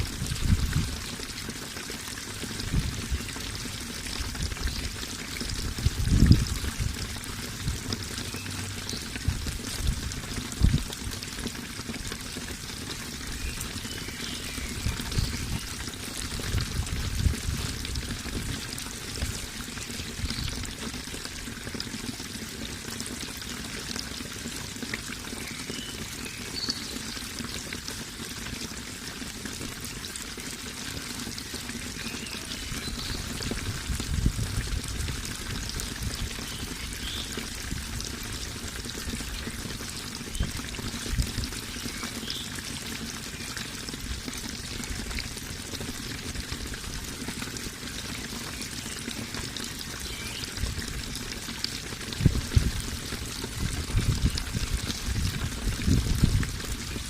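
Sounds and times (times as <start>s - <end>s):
water rushing and pouring: 0.0s - 57.0s.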